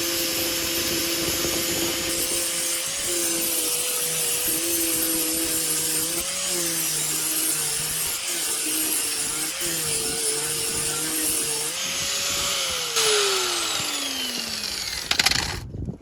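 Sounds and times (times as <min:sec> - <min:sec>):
angle grinder cutting metal: 0:00.0 - 0:15.6.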